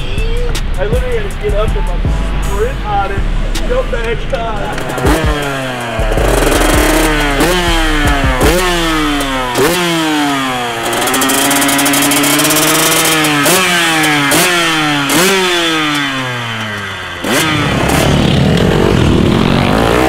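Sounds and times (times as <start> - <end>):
several dirt bike engines running: 0.0 - 20.0
dirt bike engine revving: 2.4 - 20.0.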